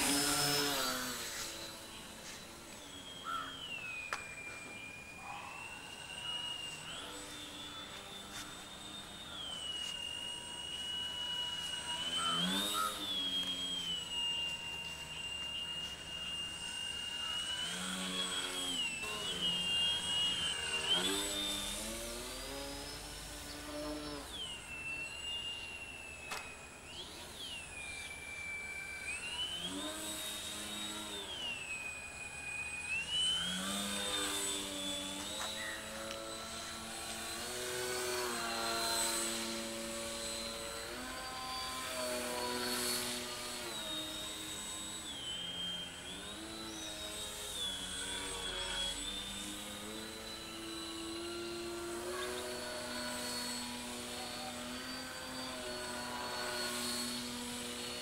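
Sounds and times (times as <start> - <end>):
model airplane motor buzzing: 0.0 - 58.0.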